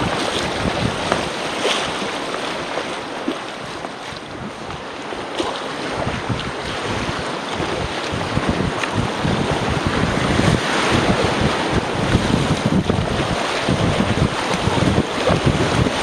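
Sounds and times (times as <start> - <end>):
paddle splashing water: 0.0 - 16.0
rushing whitewater: 0.0 - 16.0
wind buffeting microphone: 0.0 - 16.0.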